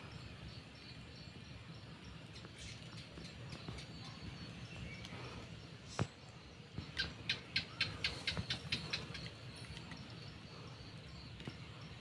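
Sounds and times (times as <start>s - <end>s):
faint steady background hum: 0.0s - 12.0s.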